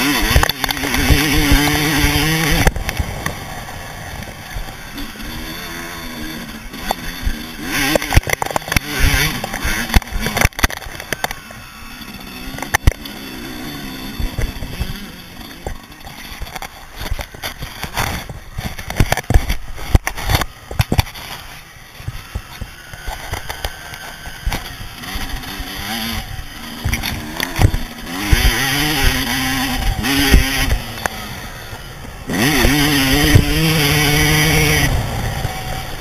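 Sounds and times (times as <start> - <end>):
dirt bike engine revving: 0.0 - 36.0
knocks and rattles over bumps: 4.1 - 36.0.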